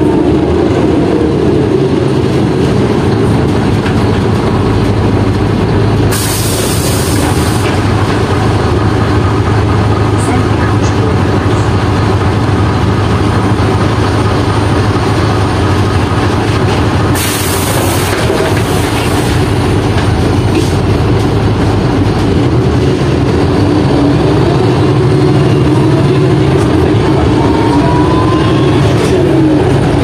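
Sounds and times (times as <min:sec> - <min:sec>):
bus engine drone with rattling: 0:00.0 - 0:30.0.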